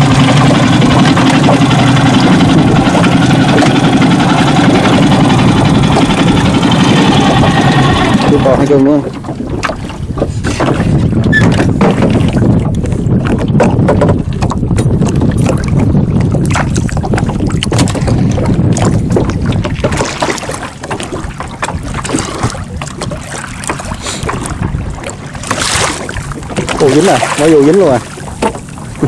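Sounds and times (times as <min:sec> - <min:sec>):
water splashes and knocks: 0:00.0 - 0:29.0
wind and water rumble: 0:00.0 - 0:29.0
wind buffeting microphone: 0:00.0 - 0:29.0.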